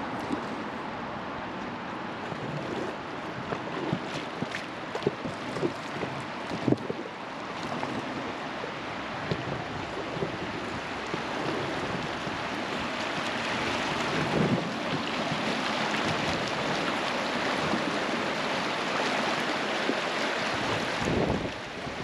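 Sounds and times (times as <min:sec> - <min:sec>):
river water rushing: 0:00.0 - 0:22.0
water splash: 0:02.2 - 0:22.0.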